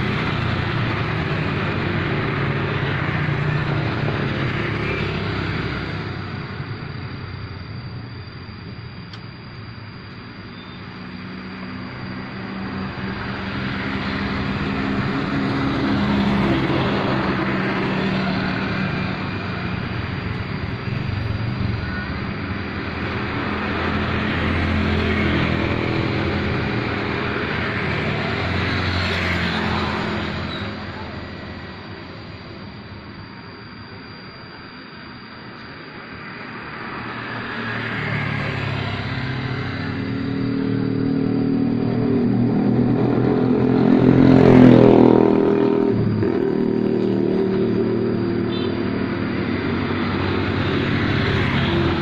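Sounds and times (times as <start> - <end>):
vehicles passing: 0.0 - 52.0.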